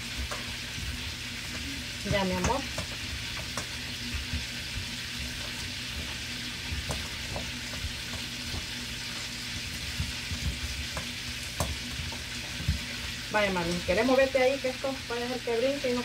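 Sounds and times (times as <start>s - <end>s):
margarine sizzling in frying pan: 0.0s - 16.0s.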